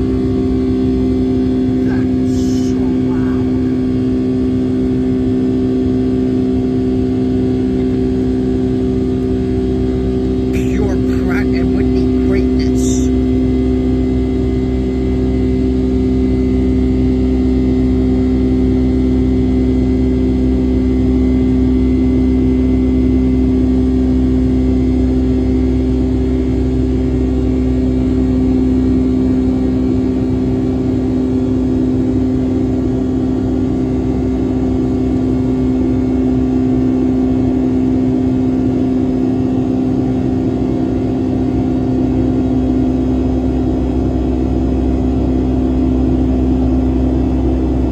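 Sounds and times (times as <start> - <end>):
jet engines humming in cabin: 0.0 - 47.9.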